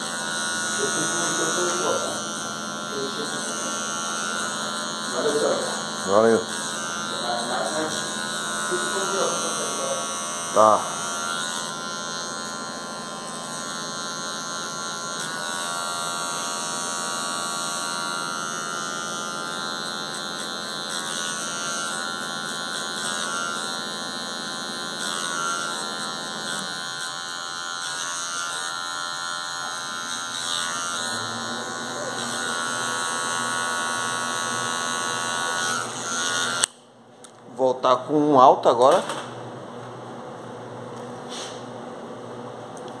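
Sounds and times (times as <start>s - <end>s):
electric hair clipper buzzing: 0.0s - 36.8s, 37.8s - 39.4s.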